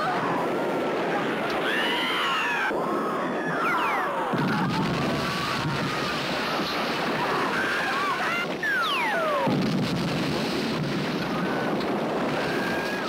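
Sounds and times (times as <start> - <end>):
large fire roaring: 0.0 - 13.0.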